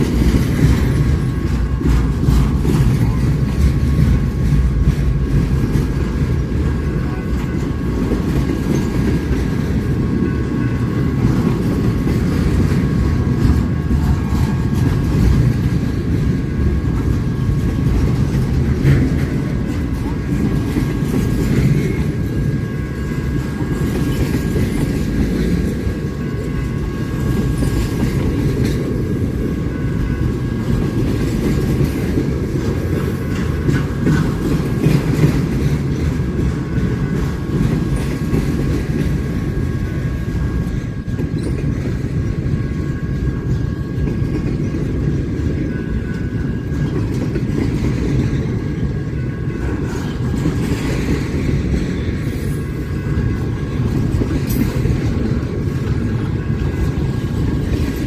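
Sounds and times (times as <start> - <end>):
railroad cars rumbling on rails: 0.0 - 58.0.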